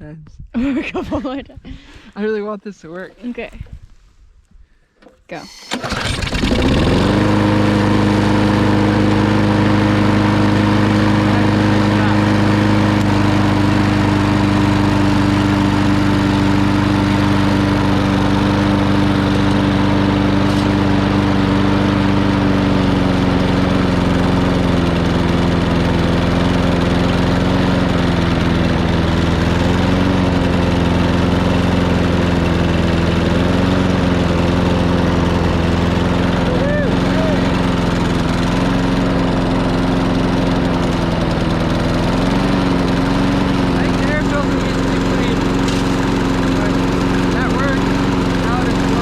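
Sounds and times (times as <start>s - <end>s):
lawn mower engine running: 5.3s - 49.0s.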